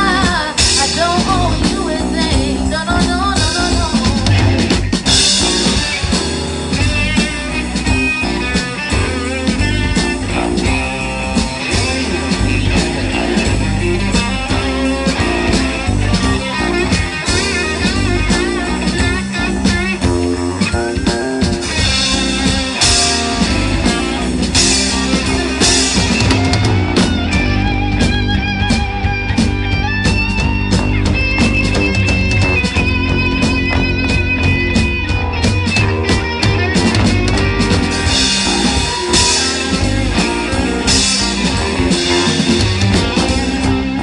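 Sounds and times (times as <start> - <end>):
bass guitar: 0.0 - 44.0
drum kit: 0.0 - 44.0
electric guitar lead: 0.0 - 44.0.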